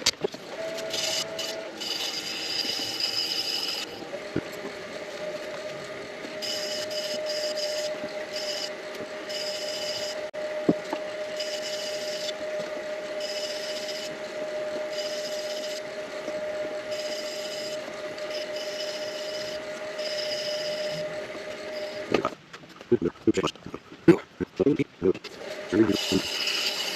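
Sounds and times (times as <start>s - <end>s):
lathe humming: 0.4s - 22.3s, 25.3s - 26.9s.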